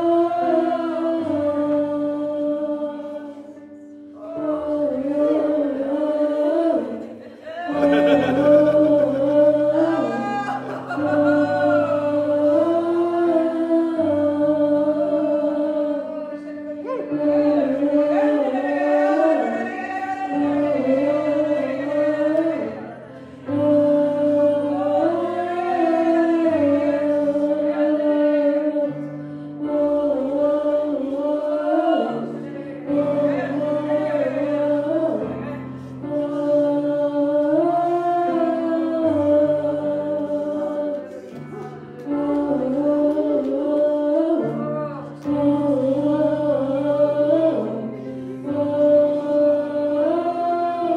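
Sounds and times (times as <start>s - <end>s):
voices singing worship: 0.0s - 50.9s.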